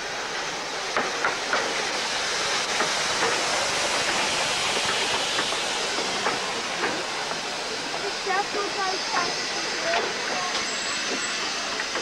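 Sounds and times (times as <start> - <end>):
steam hissing: 0.0 - 12.0
train wheels clicking on rail joints: 0.3 - 12.0.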